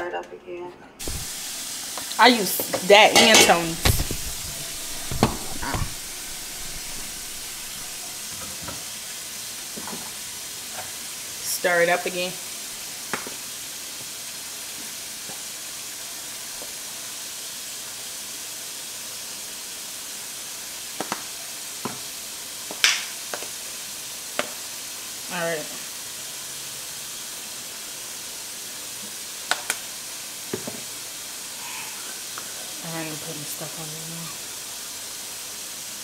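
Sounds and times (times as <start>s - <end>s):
cabbage sizzling in a pot: 1.0s - 36.0s.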